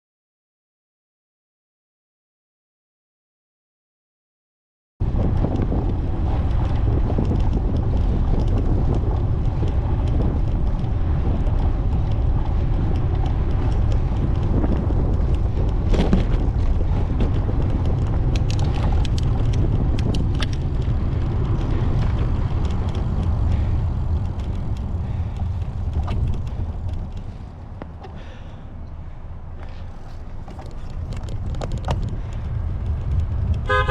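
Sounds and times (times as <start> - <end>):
vehicle road and wind noise: 5.0 - 33.9.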